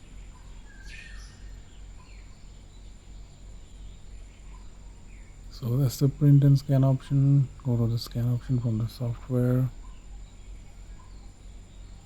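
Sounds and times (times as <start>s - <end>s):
low hum: 1.3s - 12.0s.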